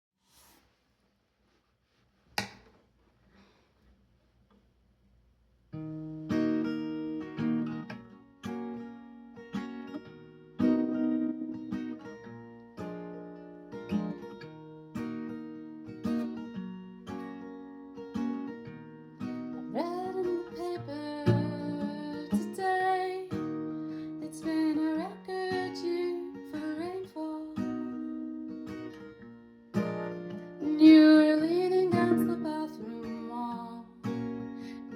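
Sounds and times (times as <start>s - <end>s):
acoustic guitar strumming chords: 5.8s - 34.9s.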